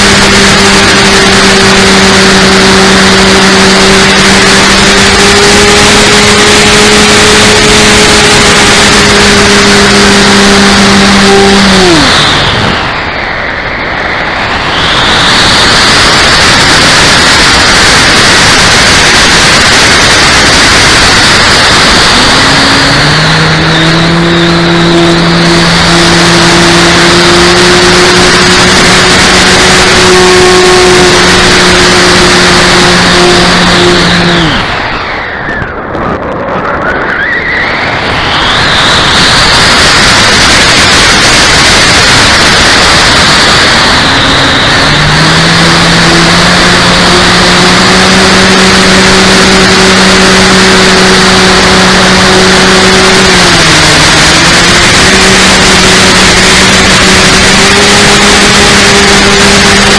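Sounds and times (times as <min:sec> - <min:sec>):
electric motor and propeller whine: 0:00.0 - 0:59.9
wind rush: 0:00.0 - 0:59.9.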